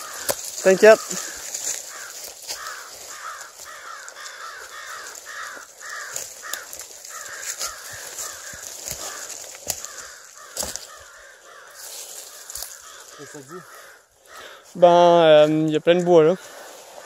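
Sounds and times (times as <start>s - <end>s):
dry branches brushing and snapping: 0.0s - 13.9s
bird calling: 0.0s - 14.8s.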